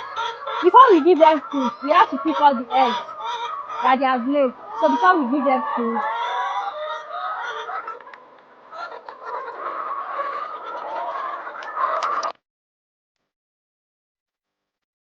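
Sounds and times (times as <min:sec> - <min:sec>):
hens clucking: 0:00.0 - 0:12.3.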